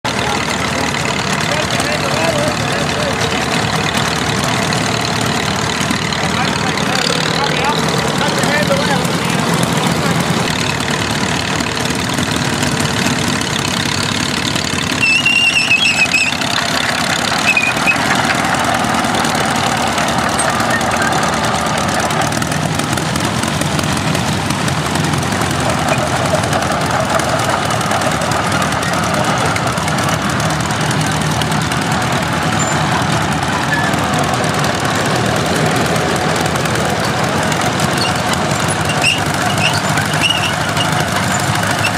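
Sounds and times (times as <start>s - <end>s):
tractor engine running at low speed: 0.0s - 41.9s.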